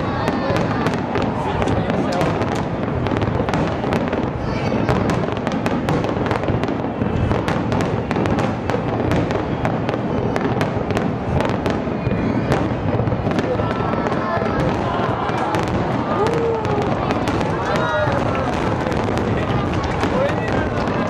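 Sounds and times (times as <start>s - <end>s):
firework booms and cracks: 0.0s - 21.0s.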